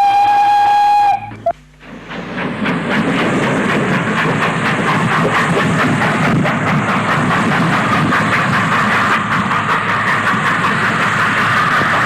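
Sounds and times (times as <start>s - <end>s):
steam locomotive exhaust beats: 0.0s - 12.0s
rail clatter: 1.2s - 12.0s.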